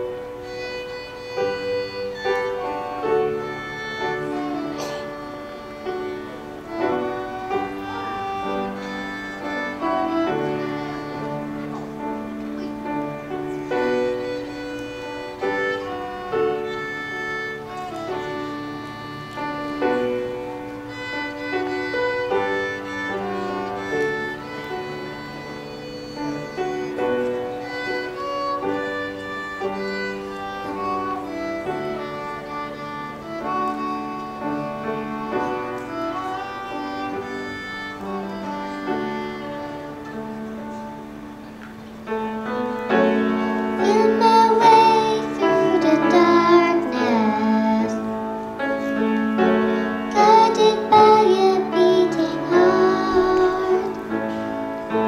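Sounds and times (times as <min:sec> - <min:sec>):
violin playing slow melody: 0:00.0 - 0:55.0.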